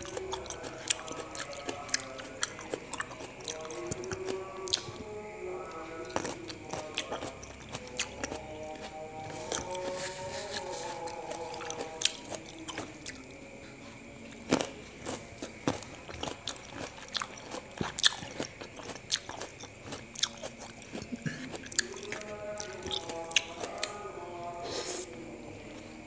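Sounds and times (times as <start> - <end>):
biting orange segments: 0.0 - 24.1
wet chewing of grapes: 0.0 - 26.0.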